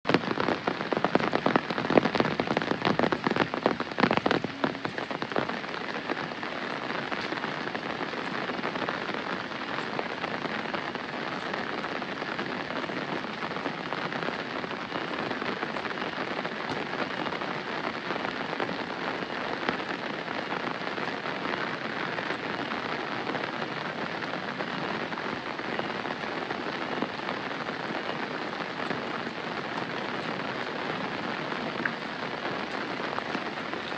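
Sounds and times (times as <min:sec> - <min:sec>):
close raindrops pattering: 0:00.1 - 0:33.9
steady rain hiss: 0:00.1 - 0:33.9.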